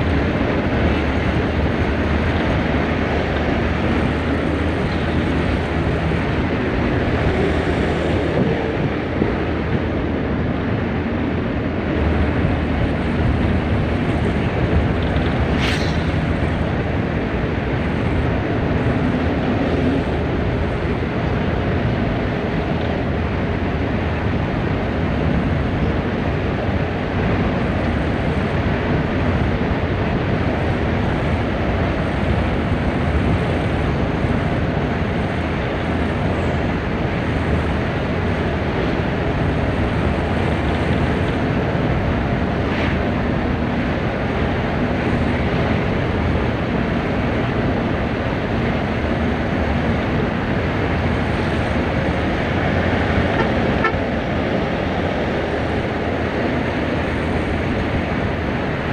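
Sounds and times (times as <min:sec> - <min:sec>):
minibus engine driving at speed: 0:00.0 - 0:58.9.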